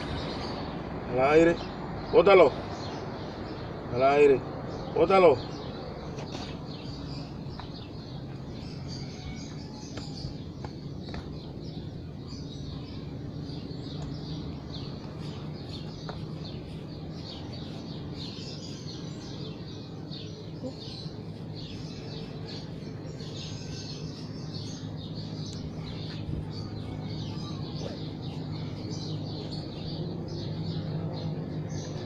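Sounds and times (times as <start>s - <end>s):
low background hum: 0.0s - 32.0s
small birds chirping: 0.0s - 32.0s.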